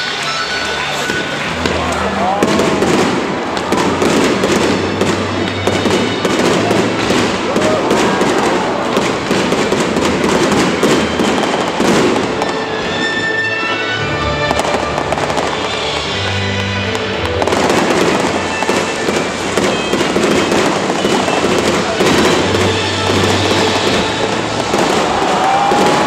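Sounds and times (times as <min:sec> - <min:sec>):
fireworks crackling and popping: 0:00.0 - 0:26.0
music: 0:00.0 - 0:26.0.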